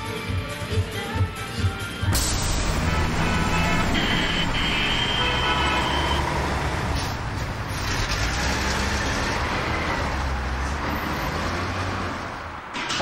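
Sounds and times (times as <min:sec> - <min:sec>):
road traffic rumble: 0:01.9 - 0:13.0.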